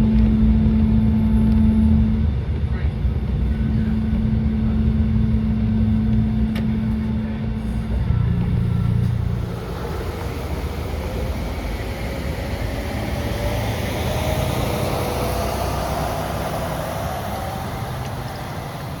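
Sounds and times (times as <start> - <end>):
trolley rumble: 0.0 - 19.0
faint whine rising in pitch: 3.2 - 19.0.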